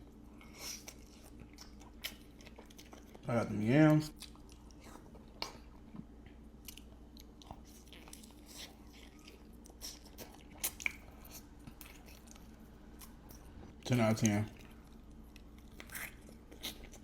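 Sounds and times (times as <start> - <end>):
person chewing food: 0.0 - 3.3, 4.1 - 17.0.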